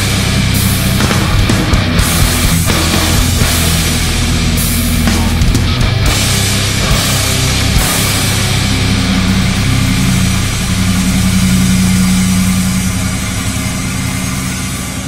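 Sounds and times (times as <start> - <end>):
cymbal-like crash: 0.0 - 15.0
distorted low drone with hiss: 0.0 - 15.0.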